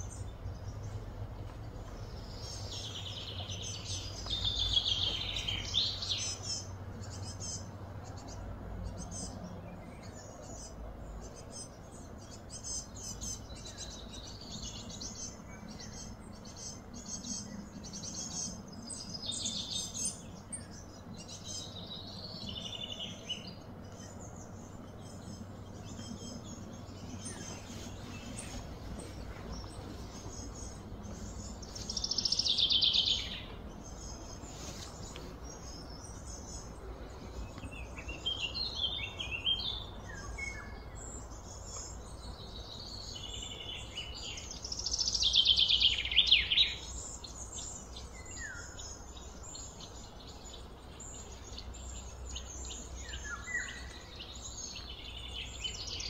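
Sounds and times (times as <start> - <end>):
birds chirping and calling: 0.0 - 56.0
low background rumble: 0.0 - 56.0.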